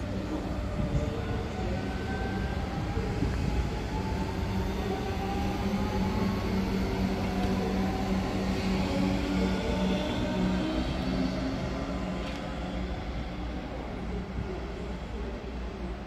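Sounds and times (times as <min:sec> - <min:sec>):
train running hum: 0:00.0 - 0:16.0.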